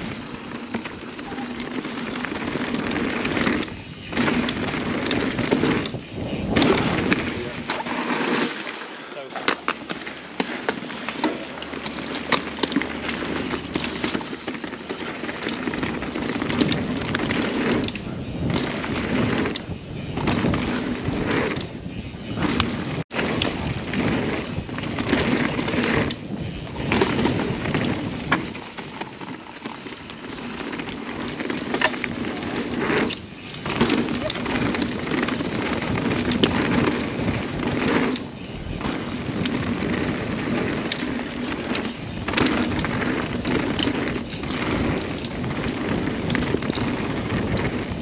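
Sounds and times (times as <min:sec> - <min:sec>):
bike rattling and knocking: 0:00.0 - 0:48.0
bike tyres rolling over dirt: 0:00.0 - 0:48.0.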